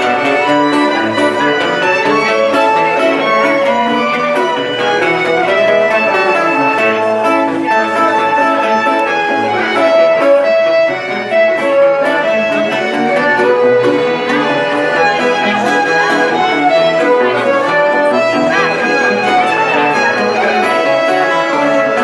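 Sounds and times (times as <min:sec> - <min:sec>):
folk band playing dance music: 0:00.0 - 0:22.0.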